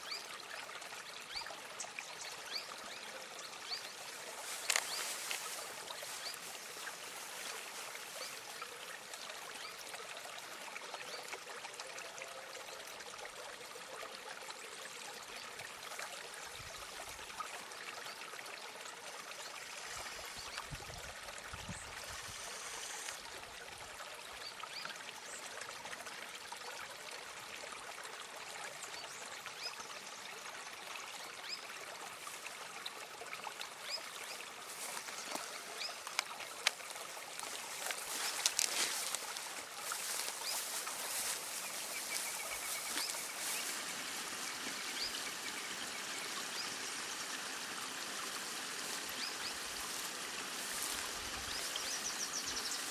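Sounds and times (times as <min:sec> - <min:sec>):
stream babbling over stones: 0:00.0 - 0:52.9.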